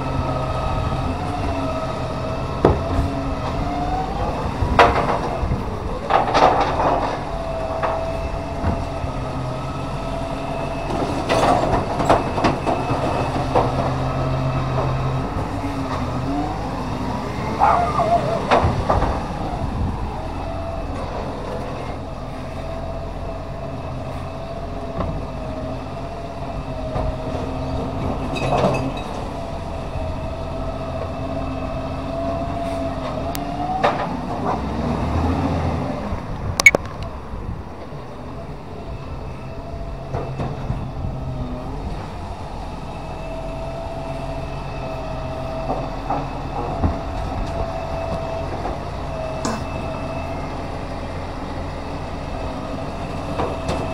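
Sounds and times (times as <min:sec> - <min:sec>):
garbage truck engine whine: 0:00.0 - 0:53.9.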